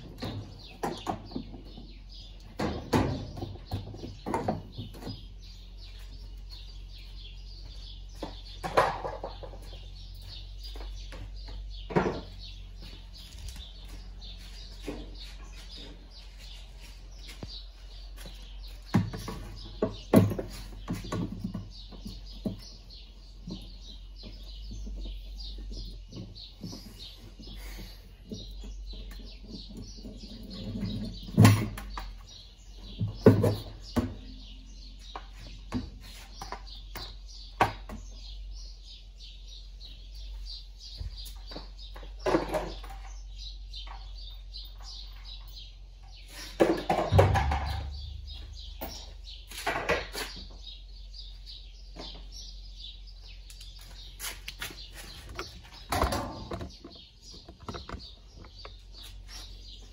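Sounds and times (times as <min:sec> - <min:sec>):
parts knocking and clattering: 0:00.0 - 0:16.6, 0:17.2 - 0:38.3, 0:40.9 - 0:50.8, 0:53.5 - 0:59.9
birds chirping: 0:00.0 - 0:59.9.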